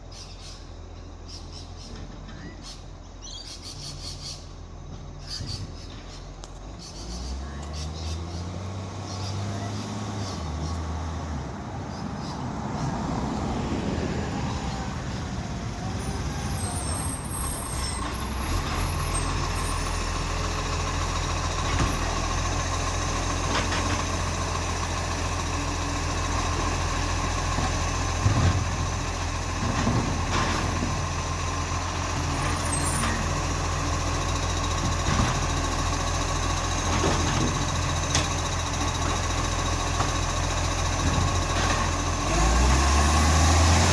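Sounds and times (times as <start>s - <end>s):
garbage truck engine hum: 0.0s - 43.9s.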